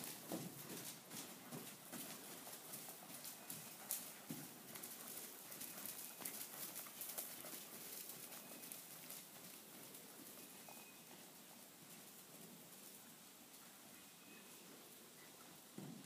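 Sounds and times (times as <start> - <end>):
horse hoofbeats on dirt: 0.0 - 13.8.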